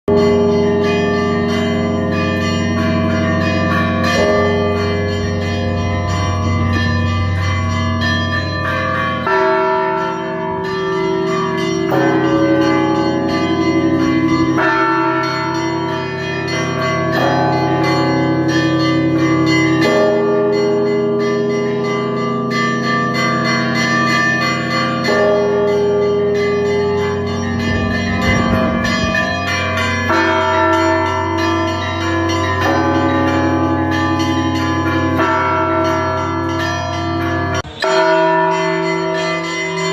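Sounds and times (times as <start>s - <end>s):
deep bell struck: 0.1s - 23.9s, 24.7s - 39.9s
small bells chiming: 0.1s - 39.9s.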